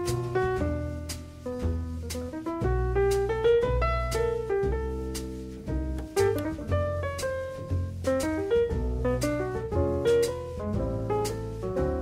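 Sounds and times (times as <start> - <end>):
jazz piano: 0.0 - 12.0
low bass line: 0.0 - 12.0.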